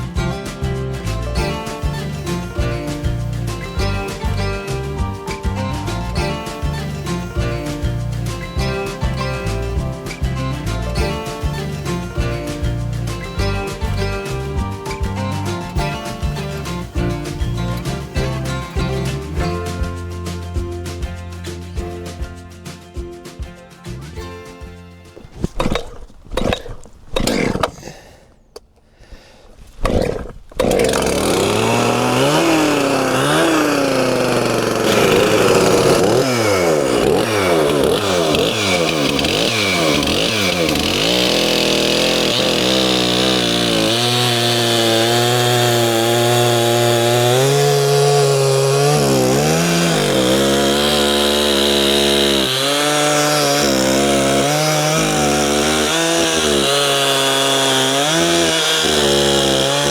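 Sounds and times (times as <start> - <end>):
chainsaw revving: 0.0 - 19.4, 25.2 - 59.9.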